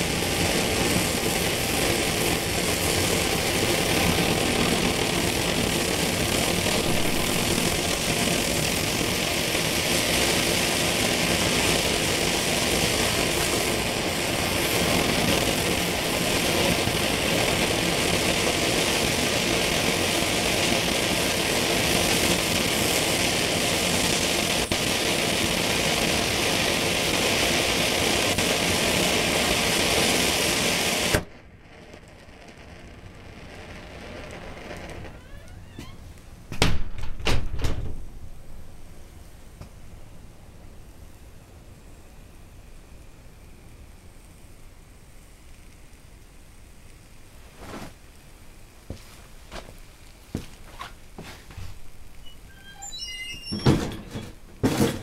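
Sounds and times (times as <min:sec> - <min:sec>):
stove flame rushing hiss: 0:00.0 - 0:36.6, 0:37.9 - 0:55.0.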